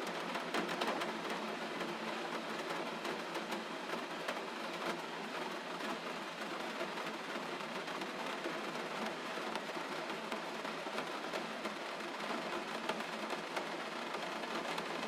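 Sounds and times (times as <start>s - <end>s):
gentle rain falling: 0.0s - 15.0s.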